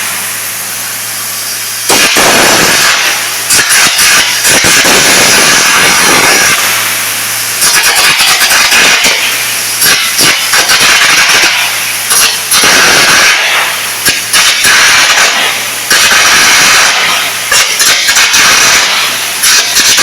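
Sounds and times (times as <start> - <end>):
harsh arc gouging hiss: 0.0 - 20.0.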